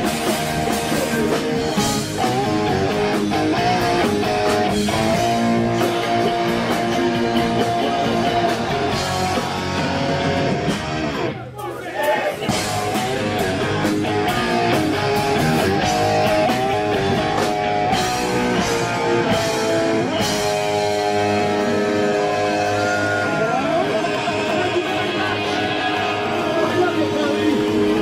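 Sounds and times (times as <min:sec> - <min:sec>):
electric guitar with sliding notes: 0:00.0 - 0:11.4, 0:12.5 - 0:28.0
drums: 0:00.0 - 0:28.0.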